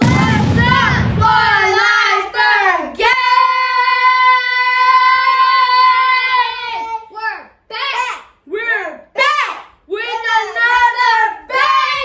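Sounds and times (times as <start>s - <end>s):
child singing: 0.0s - 8.0s, 9.9s - 12.0s.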